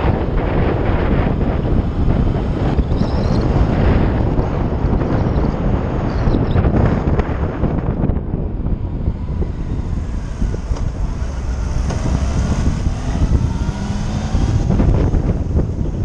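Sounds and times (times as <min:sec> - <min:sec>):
faint motorcycle engine: 0:00.0 - 0:16.0
wind buffeting microphone: 0:00.0 - 0:16.0.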